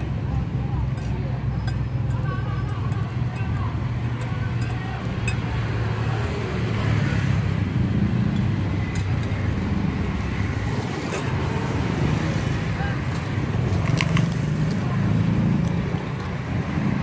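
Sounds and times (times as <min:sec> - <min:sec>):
minibus engine hum: 0:00.0 - 0:17.0.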